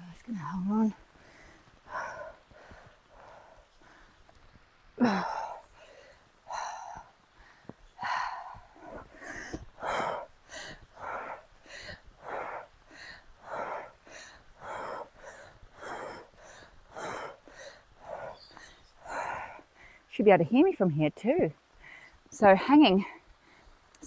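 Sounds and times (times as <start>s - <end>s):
woman breathing hard: 1.0s - 20.1s, 21.7s - 22.2s.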